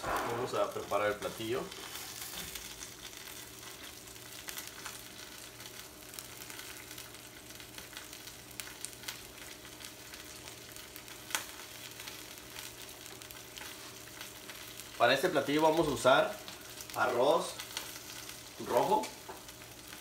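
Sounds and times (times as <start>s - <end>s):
shrimp sizzling in skillet: 0.0s - 20.0s.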